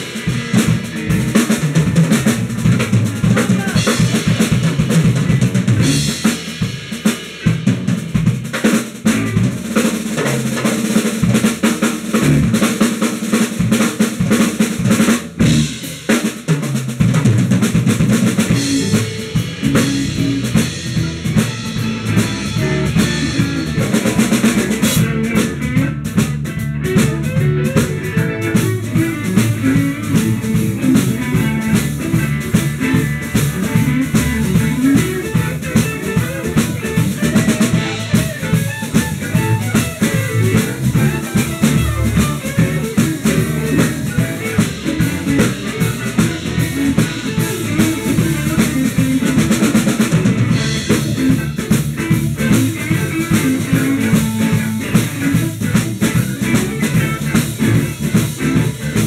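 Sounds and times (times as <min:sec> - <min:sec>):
deep bass: 0:00.0 - 0:09.7, 0:12.1 - 0:12.6, 0:14.8 - 0:16.0, 0:16.9 - 0:59.0
drums: 0:00.0 - 0:59.0
live blues band: 0:00.0 - 0:59.0.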